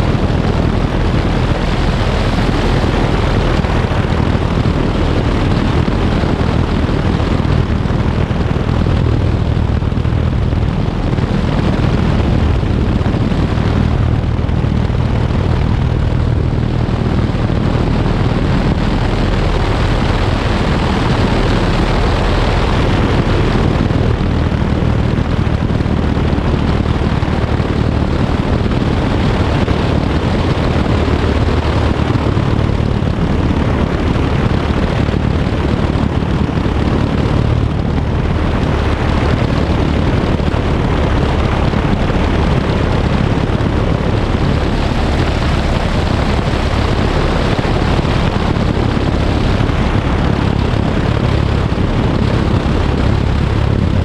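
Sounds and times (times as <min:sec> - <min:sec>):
airplane engine droning: 0:00.0 - 0:54.0
steady rush of air: 0:00.0 - 0:54.0.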